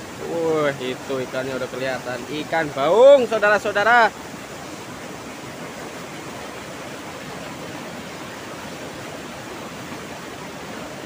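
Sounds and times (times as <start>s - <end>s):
rushing river water: 0.0s - 11.0s.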